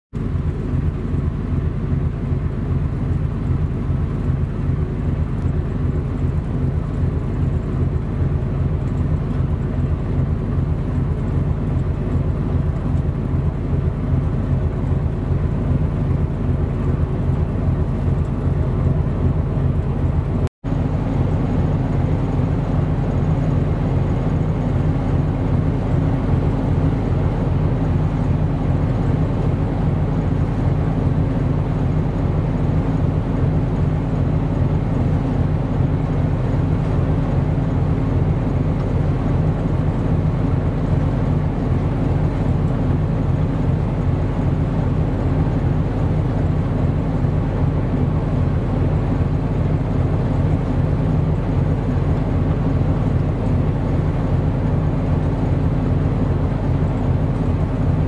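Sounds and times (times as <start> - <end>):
boat engines rumbling: 0.2 - 58.0.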